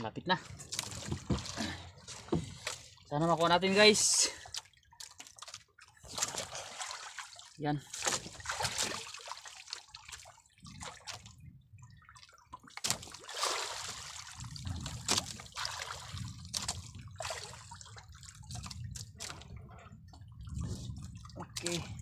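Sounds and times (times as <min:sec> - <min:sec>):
sea water splashing and dripping: 0:00.4 - 0:22.0.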